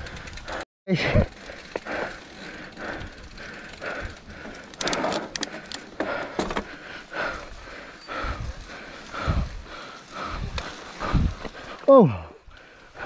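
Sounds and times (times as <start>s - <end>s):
bike clicking: 0.0s - 13.0s.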